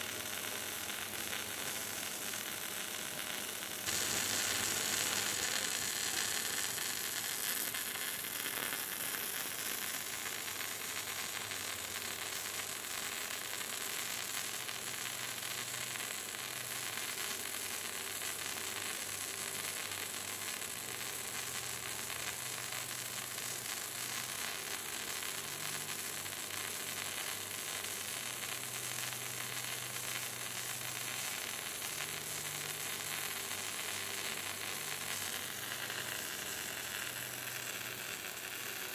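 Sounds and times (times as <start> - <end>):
welding arc crackling sizzle: 0.0 - 38.9.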